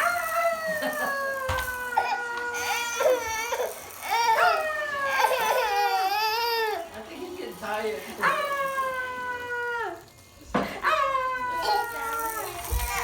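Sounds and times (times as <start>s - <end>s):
child crying in wails: 0.0s - 6.9s, 8.2s - 10.0s, 10.7s - 13.0s.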